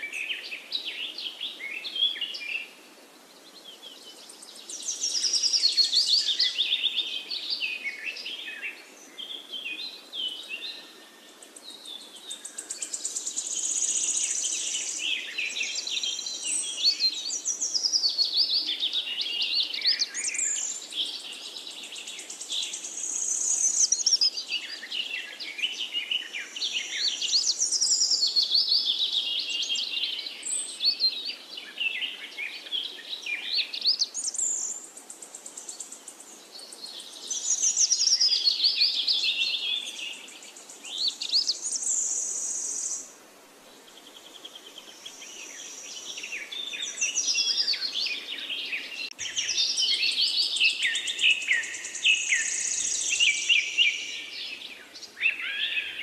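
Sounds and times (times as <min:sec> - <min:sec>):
small birds chirping: 0:00.0 - 0:43.1, 0:43.7 - 0:56.0.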